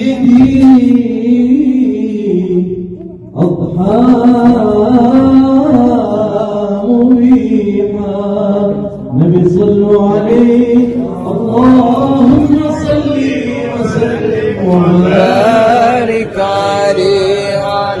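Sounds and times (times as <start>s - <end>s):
devotional chanting: 0.0s - 18.0s.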